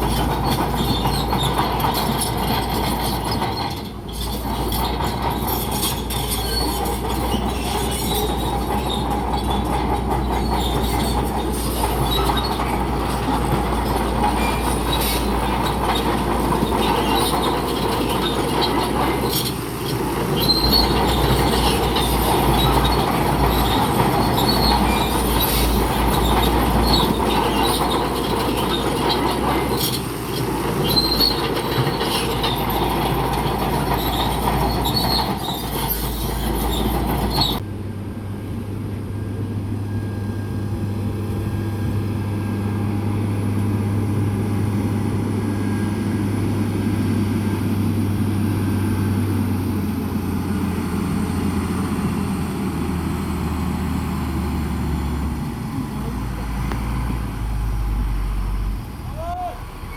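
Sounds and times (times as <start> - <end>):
steel tracks squealing and clanking: 0.0 - 37.6, 39.3 - 59.9
bulldozer engine under load: 0.0 - 59.9.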